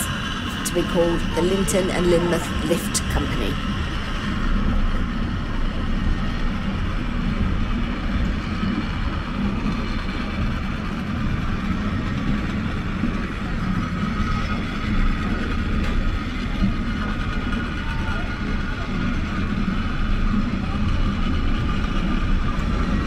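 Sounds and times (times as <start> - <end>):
wheels rolling on rails: 3.6 - 23.0.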